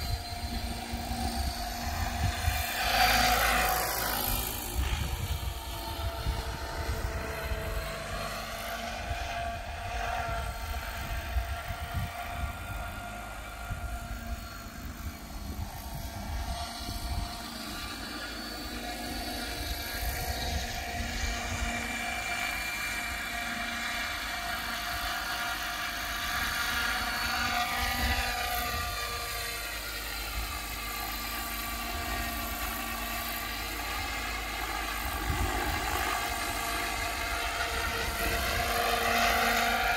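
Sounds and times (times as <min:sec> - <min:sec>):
model helicopter rotor whir: 0:00.0 - 0:39.9.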